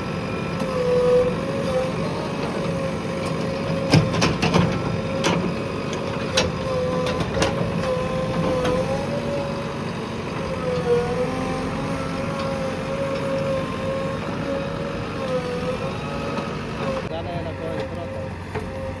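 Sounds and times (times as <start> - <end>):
diesel engine whining: 0.0 - 19.0.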